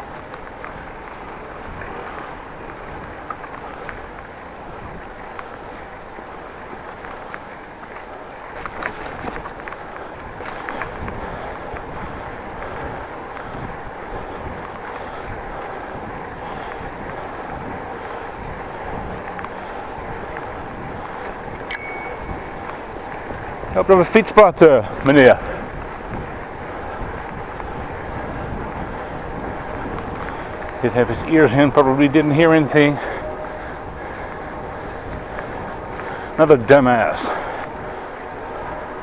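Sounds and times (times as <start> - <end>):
bicycle rolling noise: 0.0 - 21.7, 22.7 - 39.0
wind: 0.0 - 39.0.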